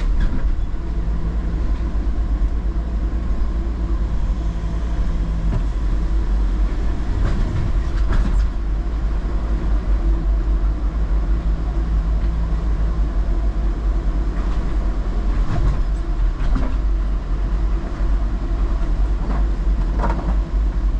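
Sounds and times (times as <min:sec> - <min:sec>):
car rolling low rumble: 0:00.0 - 0:20.9.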